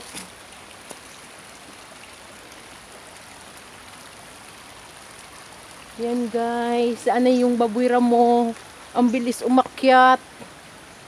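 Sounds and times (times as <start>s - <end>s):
creek flowing: 0.0s - 11.0s.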